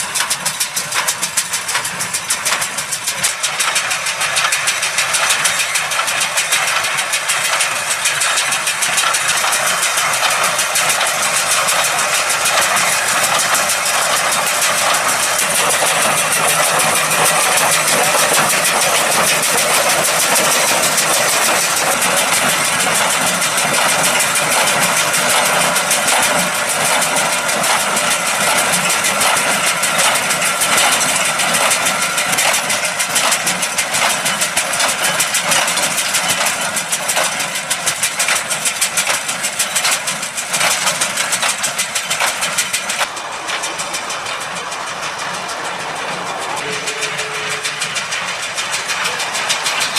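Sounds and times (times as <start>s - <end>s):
baler working: 0.0s - 49.9s
tractor diesel engine running: 0.0s - 49.9s.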